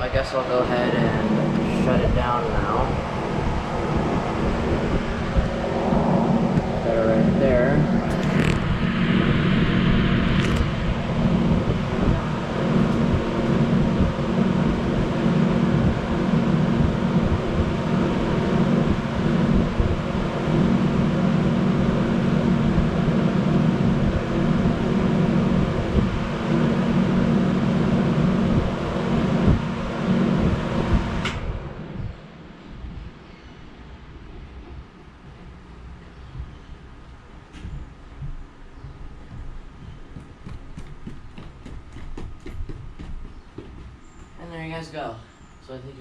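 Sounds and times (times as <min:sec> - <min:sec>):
air conditioner shutting off: 0:00.0 - 0:45.4
air conditioner unit humming: 0:00.0 - 0:46.0.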